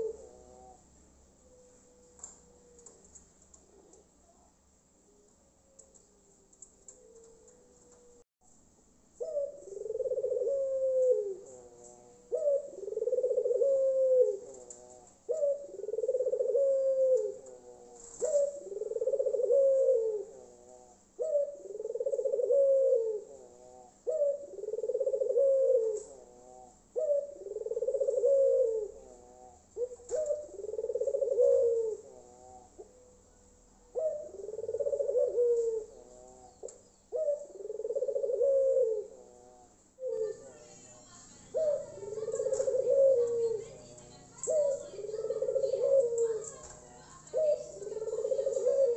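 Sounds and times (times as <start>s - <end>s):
dove cooing: 0.0s - 4.1s, 9.2s - 48.9s.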